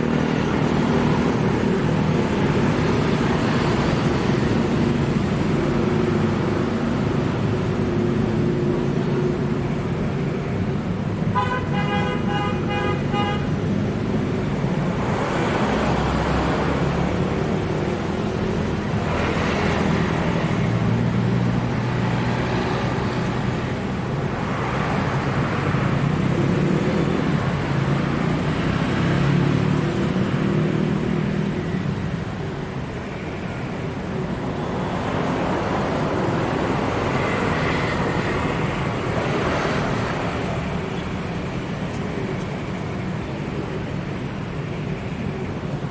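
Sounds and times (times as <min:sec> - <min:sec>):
road traffic passing: 0:00.0 - 0:45.9.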